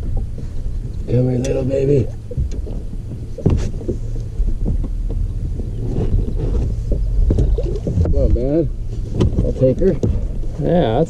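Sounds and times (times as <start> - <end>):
knocks and clunks: 0.0 - 10.7
wind rumble on microphone: 0.0 - 11.0.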